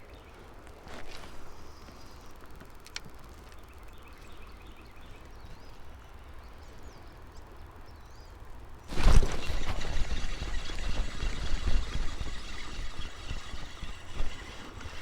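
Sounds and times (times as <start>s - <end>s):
birds chirping faintly: 1.4s - 15.0s.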